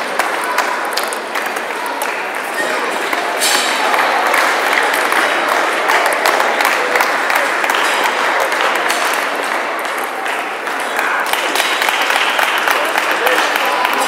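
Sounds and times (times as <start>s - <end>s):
murmur of voices: 0.0s - 14.0s.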